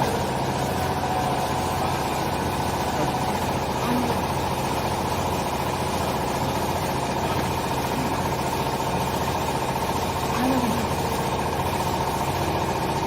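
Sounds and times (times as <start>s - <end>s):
hydraulic press motor humming: 0.0s - 13.0s.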